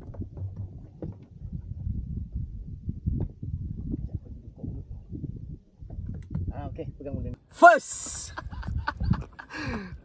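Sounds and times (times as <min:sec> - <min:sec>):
wind buffeting microphone: 0:00.0 - 0:07.4, 0:08.2 - 0:10.0.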